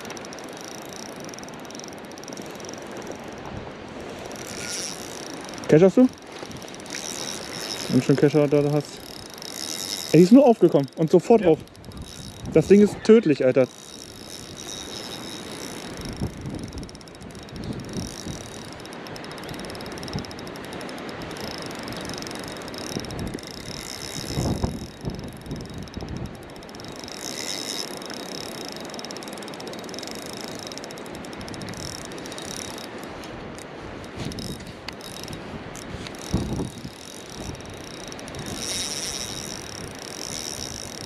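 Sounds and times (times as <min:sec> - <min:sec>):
fishing reel ticking: 0:00.0 - 0:41.0.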